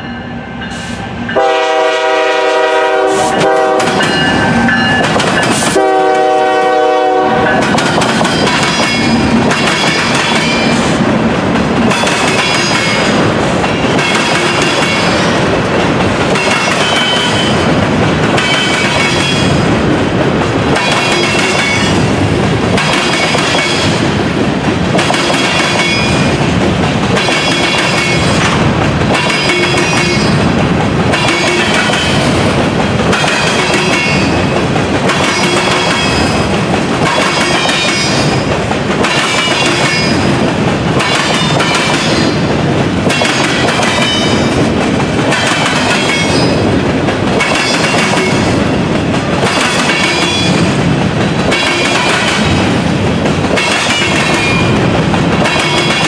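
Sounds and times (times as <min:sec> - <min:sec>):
freight train rolling past: 0:00.0 - 0:56.0
wheels clickety-clack and ringing: 0:03.8 - 0:05.7, 0:07.4 - 0:19.6, 0:20.7 - 0:24.1, 0:24.7 - 0:30.4, 0:31.1 - 0:56.0.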